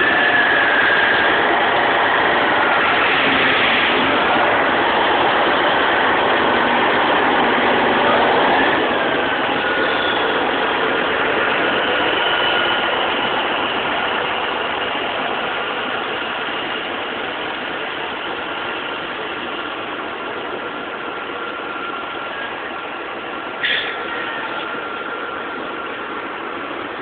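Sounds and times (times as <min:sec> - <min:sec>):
truck diesel engine idling: 0:00.0 - 0:27.0.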